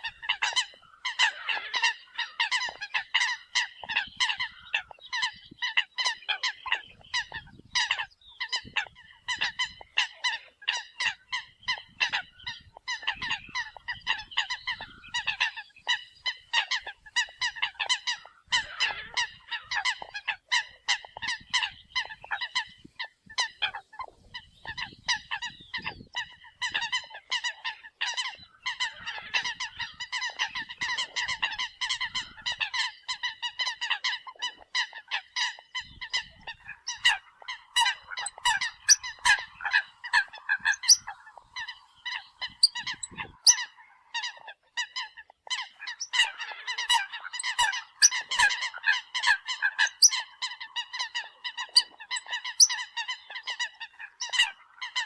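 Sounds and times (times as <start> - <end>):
coots calling: 0.0 - 55.0.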